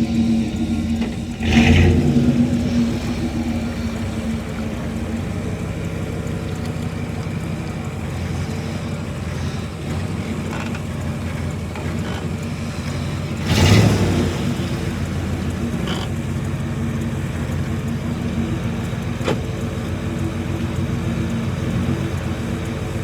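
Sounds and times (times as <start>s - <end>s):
pickup truck engine driving: 0.0s - 23.0s.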